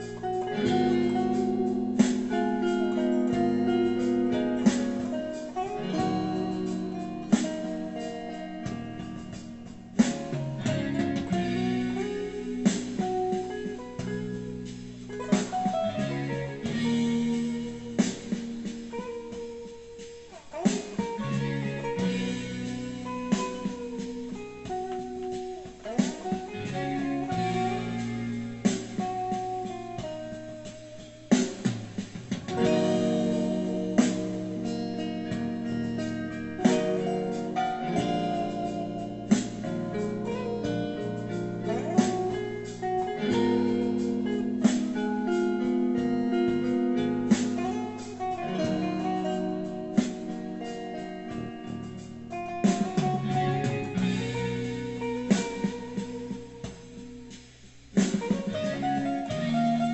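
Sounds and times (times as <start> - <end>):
backing track chords and bass: 0.0 - 59.9
electric guitar lead: 0.0 - 59.9.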